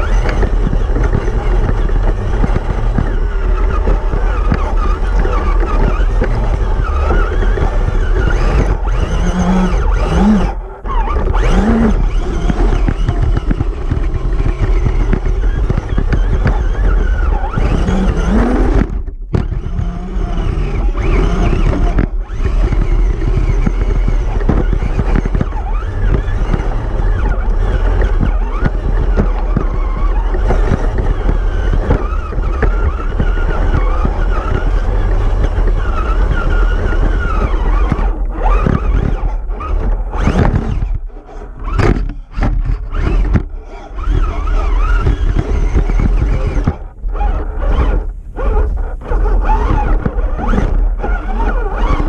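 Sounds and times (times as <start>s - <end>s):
electric motor whine: 0.0s - 52.0s
toy truck clattering over rocks: 0.0s - 52.0s.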